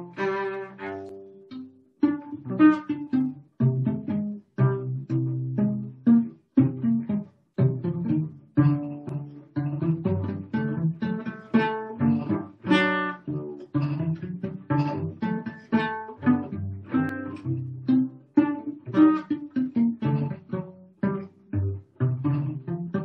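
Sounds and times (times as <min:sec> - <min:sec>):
solo cello bowed notes: 0:00.0 - 0:23.0.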